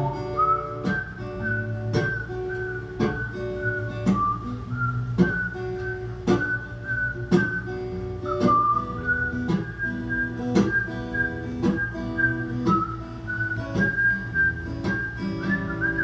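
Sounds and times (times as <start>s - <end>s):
acoustic guitar strumming: 0.0s - 16.0s
whistled melody: 0.0s - 16.0s.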